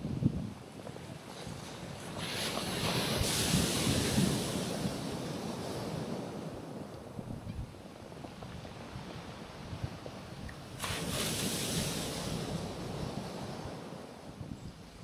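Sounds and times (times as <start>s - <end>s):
wind buffeting microphone: 0.0s - 15.0s
sea waves washing on rocks: 0.8s - 7.3s, 8.0s - 14.4s.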